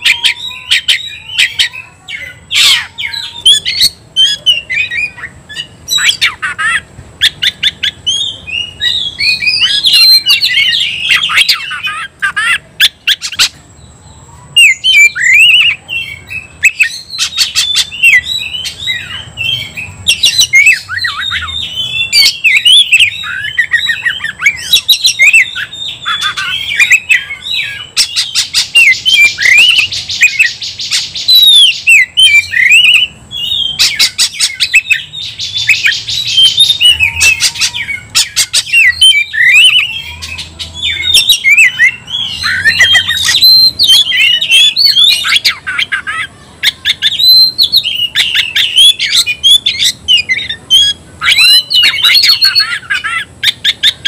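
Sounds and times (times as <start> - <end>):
bird singing chirps and whistles: 0.0 - 54.0
harsh rasping bird calls: 0.0 - 54.0.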